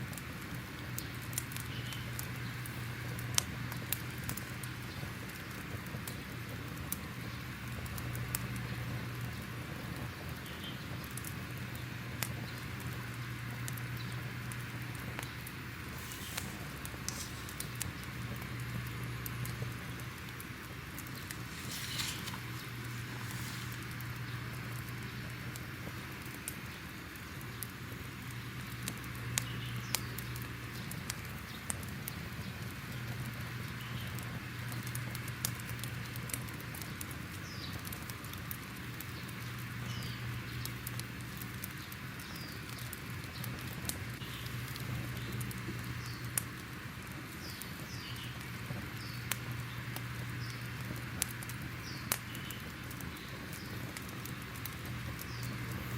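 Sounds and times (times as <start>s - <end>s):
fire hiss and rumble: 0.0s - 55.9s
fire popping and crackling: 0.0s - 55.9s.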